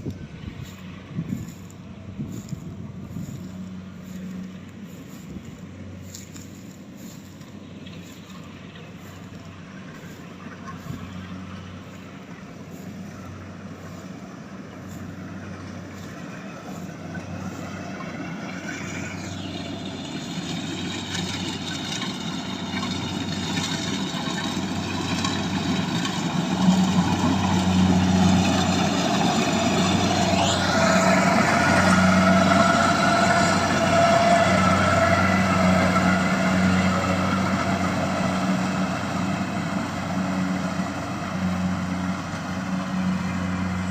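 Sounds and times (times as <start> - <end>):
harvester diesel engine running: 0.0 - 43.9.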